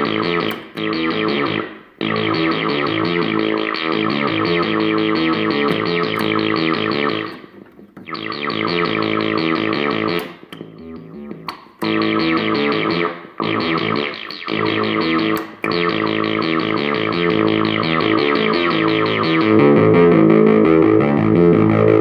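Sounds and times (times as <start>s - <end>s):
buzzy synthesizer run: 0.0s - 22.0s.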